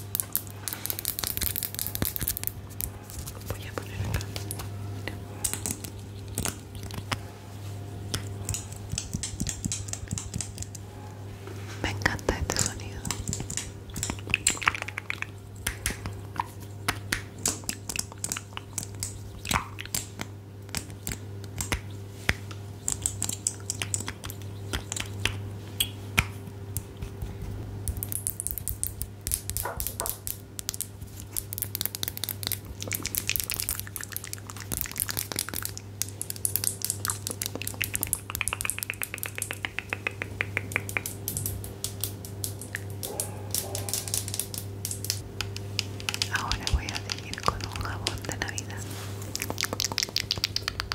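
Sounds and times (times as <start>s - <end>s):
taps clicks and crackles: 0.0s - 4.8s, 5.4s - 7.2s, 8.1s - 10.9s, 11.9s - 50.9s
steady low hum: 0.0s - 50.9s.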